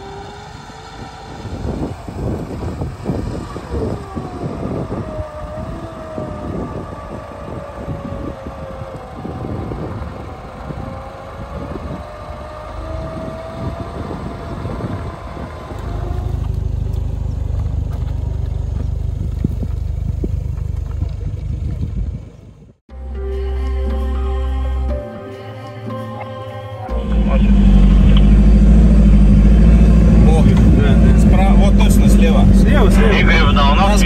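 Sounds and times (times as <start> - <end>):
loud deep steady rumble: 0.0 - 22.8, 26.9 - 34.0
off-road vehicle engine whine: 0.0 - 34.0.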